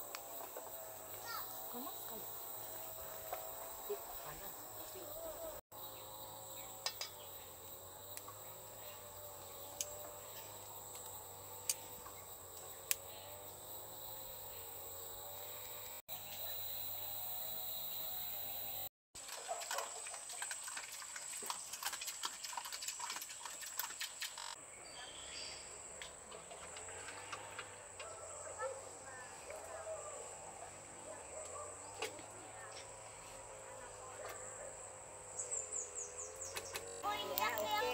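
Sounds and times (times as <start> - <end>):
high insect drone: 0.0 - 18.9, 24.3 - 37.9.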